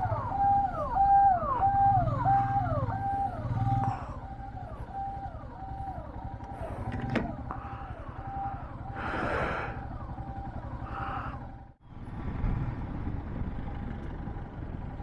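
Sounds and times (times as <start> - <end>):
engines rumbling in traffic: 0.0 - 15.0.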